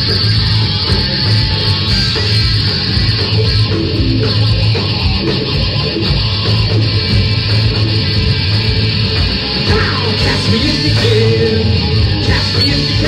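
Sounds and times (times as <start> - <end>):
amplified electric guitar: 0.0 - 13.0
drum kit: 0.0 - 13.0.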